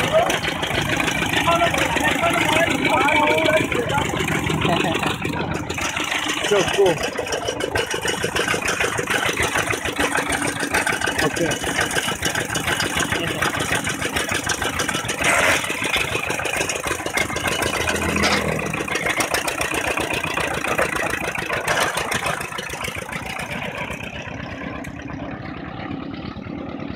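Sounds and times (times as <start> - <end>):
diesel engine pulsing with rattle: 0.0 - 26.9.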